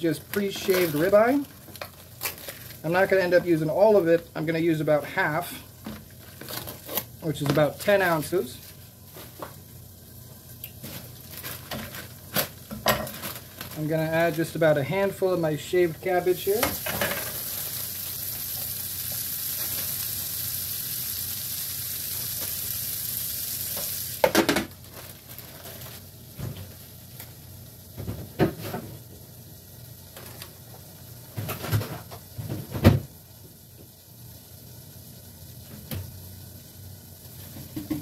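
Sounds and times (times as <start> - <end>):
vegetables sizzling in a frying pan: 0.0 - 38.0.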